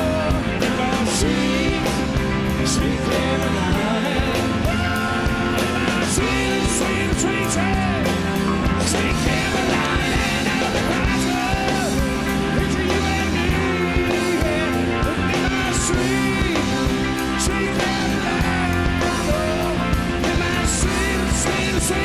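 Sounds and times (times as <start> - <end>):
person singing: 0.0 - 22.0
rock band playing: 0.0 - 22.0.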